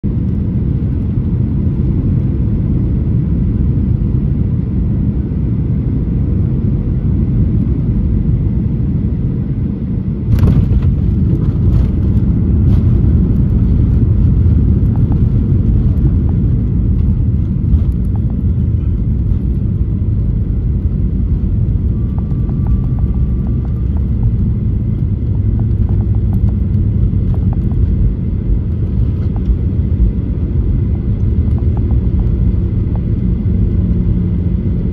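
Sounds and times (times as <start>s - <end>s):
airplane cabin rumble: 0.0s - 34.9s.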